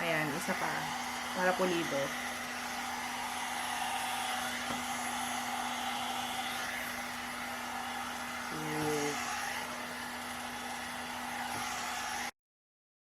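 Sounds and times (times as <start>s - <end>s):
hair dryer blowing: 0.0s - 12.4s.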